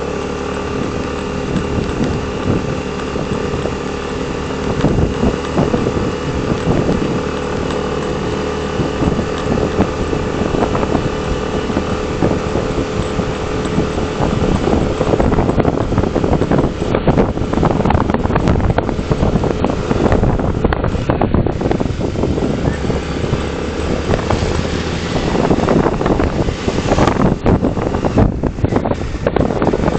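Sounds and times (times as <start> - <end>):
rough crackling noise: 0.0 - 29.9
steady engine hum: 0.0 - 29.9
wind buffeting microphone: 0.0 - 29.9.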